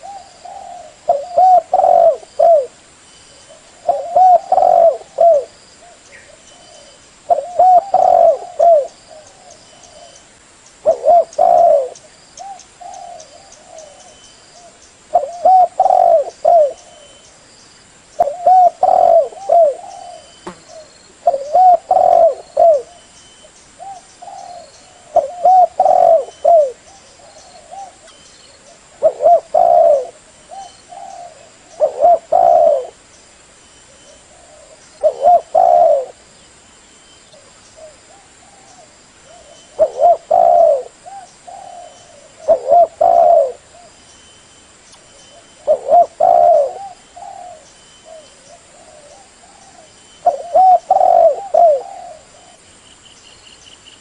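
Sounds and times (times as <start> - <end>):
dove cooing: 0.0 - 2.8, 3.4 - 10.2, 10.8 - 17.2, 18.2 - 23.1, 23.8 - 33.0, 33.9 - 36.3, 37.3 - 44.0, 45.1 - 52.6.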